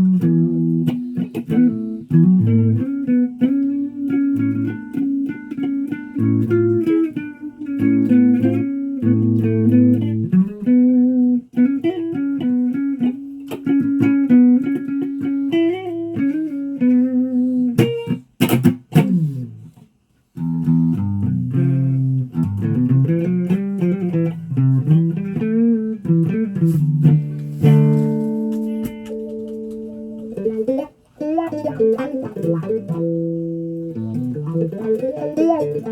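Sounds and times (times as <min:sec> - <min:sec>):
guitar plucked notes: 0:00.0 - 0:19.8, 0:20.4 - 0:35.9.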